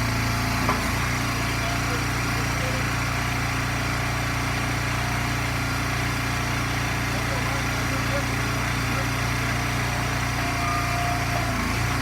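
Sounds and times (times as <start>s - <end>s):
small gas engine running: 0.0s - 12.0s.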